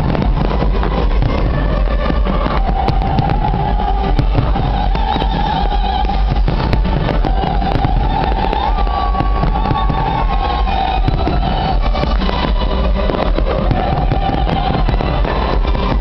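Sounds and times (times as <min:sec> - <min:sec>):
crowd noise: 0:00.0 - 0:16.0
fireworks bangs: 0:00.0 - 0:16.0
music from sound system: 0:00.0 - 0:16.0.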